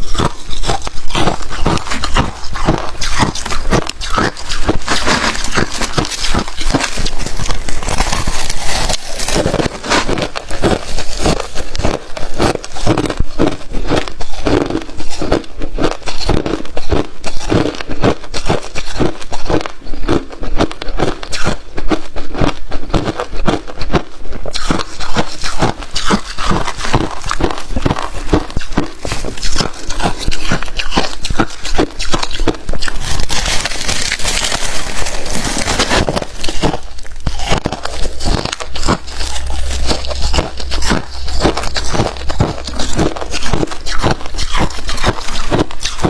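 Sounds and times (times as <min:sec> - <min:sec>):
frost being chewed crunching: 0:00.0 - 0:46.0.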